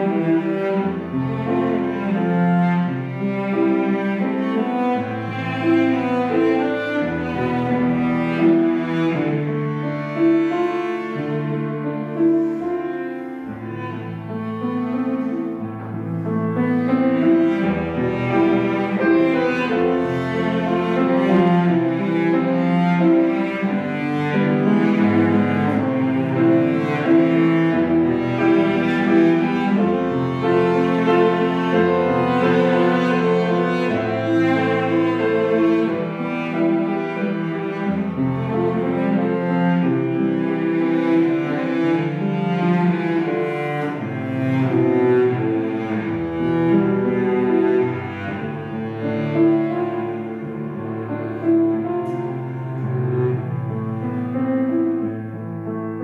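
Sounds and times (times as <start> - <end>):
cello melody: 0.0 - 56.0
piano accompaniment: 0.0 - 56.0.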